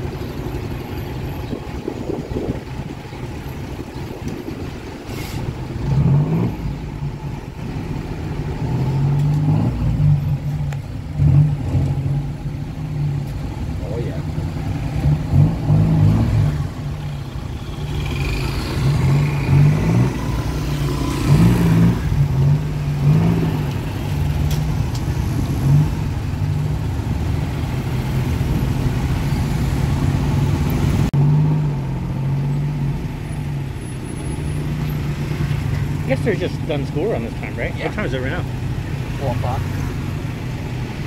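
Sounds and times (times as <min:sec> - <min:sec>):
road noise: 0:00.0 - 0:41.0
tuk-tuk engine running: 0:00.0 - 0:41.0.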